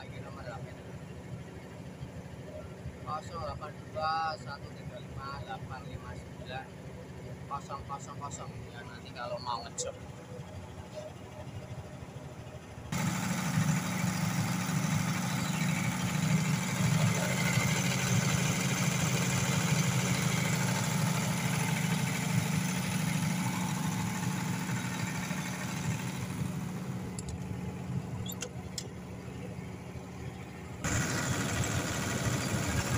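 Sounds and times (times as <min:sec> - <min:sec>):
diesel generator engine running: 0:00.0 - 0:32.9.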